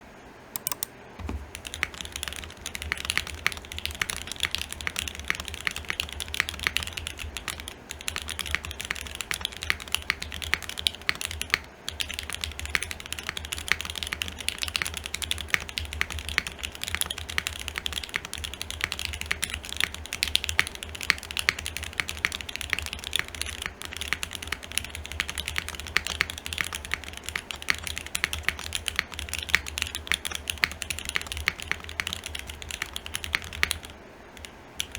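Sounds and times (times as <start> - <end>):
mechanical keyboard typing: 0.6 - 34.9.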